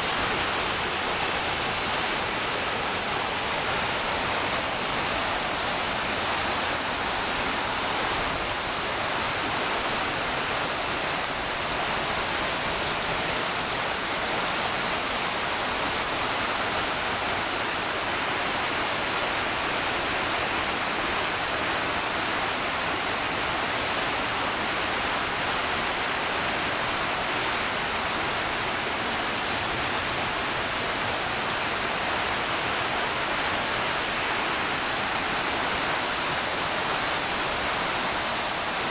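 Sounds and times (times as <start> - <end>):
whitewater rushing over boulders: 0.0 - 38.9.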